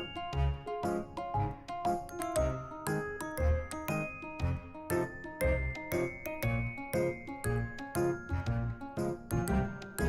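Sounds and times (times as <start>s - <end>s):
bouncy tune with bell-like notes: 0.0s - 10.0s.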